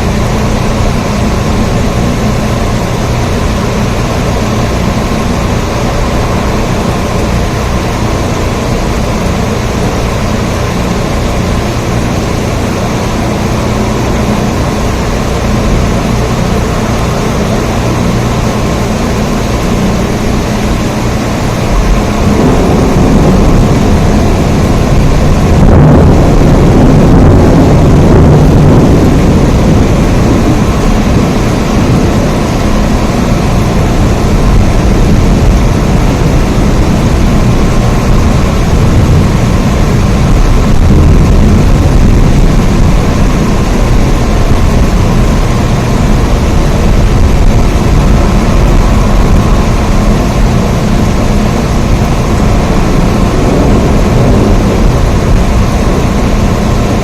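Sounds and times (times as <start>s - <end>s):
heavy rain: 0.0s - 57.0s
low thunder rumble: 0.0s - 57.0s.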